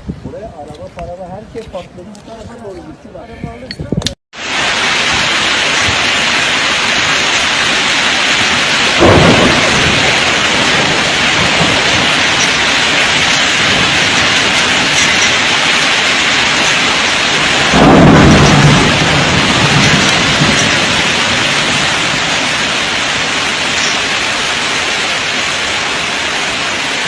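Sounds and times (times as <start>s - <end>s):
heavy rain pouring: 4.4s - 27.0s
low thunder rumbles: 4.7s - 27.0s.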